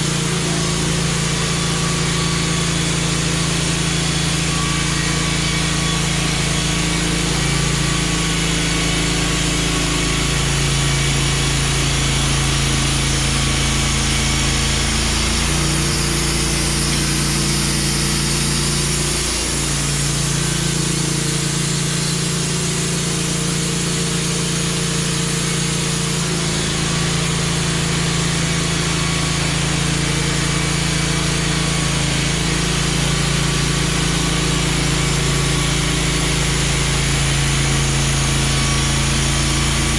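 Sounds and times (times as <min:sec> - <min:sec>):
band saw cutting log: 0:00.0 - 0:39.9
sawmill engine running: 0:00.0 - 0:39.9.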